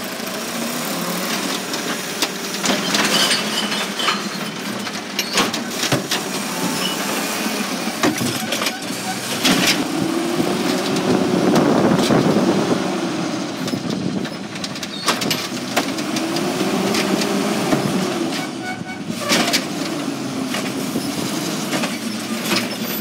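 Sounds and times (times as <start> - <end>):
truck engine and hydraulics whine: 0.0 - 23.0.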